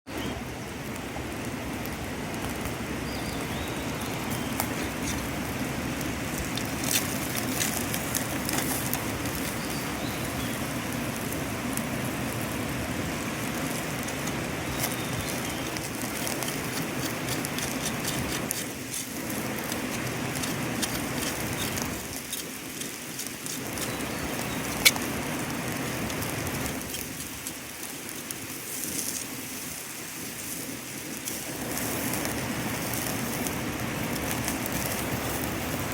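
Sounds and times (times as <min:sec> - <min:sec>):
crackles and pops of dripping fat: 0:00.2 - 0:30.3, 0:31.0 - 0:35.9
meat sizzling on a grill: 0:00.5 - 0:35.9.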